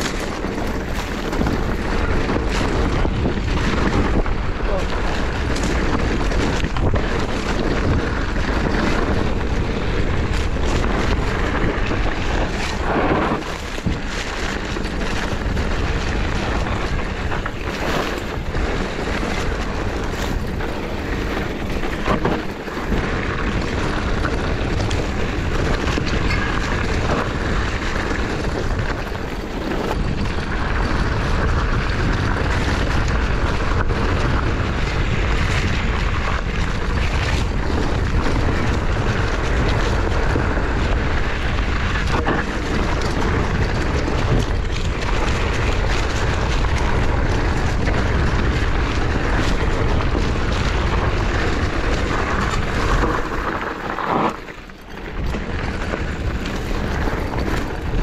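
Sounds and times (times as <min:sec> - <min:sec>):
bike clicks and knocks: 0:00.0 - 0:58.0
tyres rolling on dirt: 0:00.0 - 0:58.0
wind buffeting microphone: 0:00.0 - 0:58.0.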